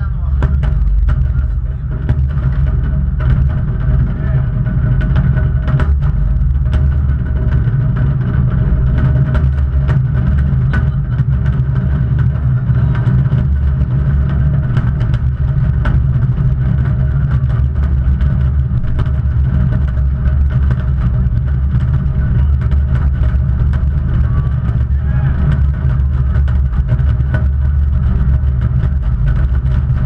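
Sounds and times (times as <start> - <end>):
rumble of firework bursts: 0.0 - 30.0.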